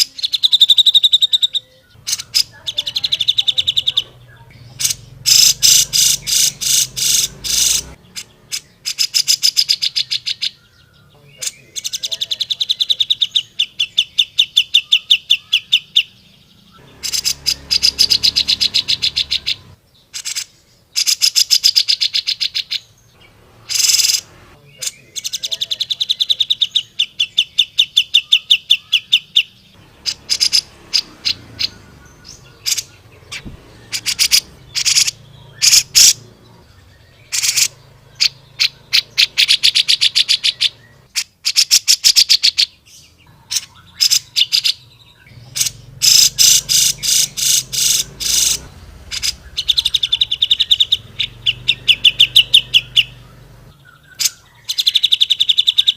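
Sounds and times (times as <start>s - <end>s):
bird singing chattering runs: 0.0s - 55.9s.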